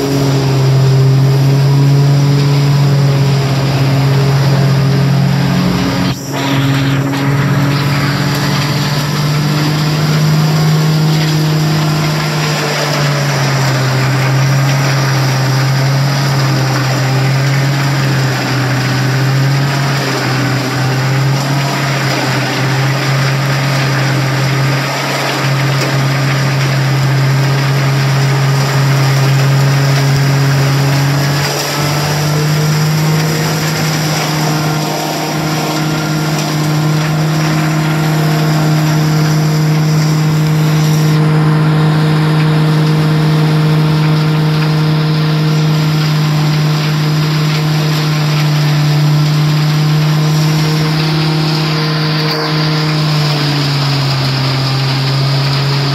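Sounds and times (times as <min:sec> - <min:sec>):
bale processor machine drone: 0:00.0 - 0:55.9
rushing noise of chopped stalks: 0:00.0 - 0:55.9.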